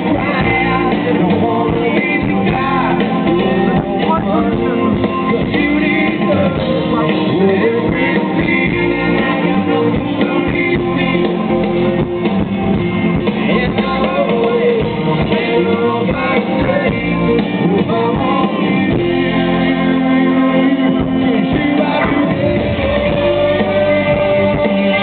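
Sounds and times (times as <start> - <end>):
person singing: 0.0 - 12.3, 13.2 - 25.0
acoustic guitar: 0.0 - 25.0
drum kit playing: 0.0 - 25.0
upright double bass: 0.0 - 25.0.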